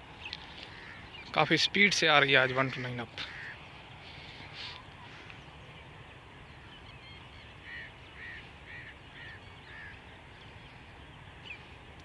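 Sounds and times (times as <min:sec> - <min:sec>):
bird calling: 0:00.2 - 0:11.8.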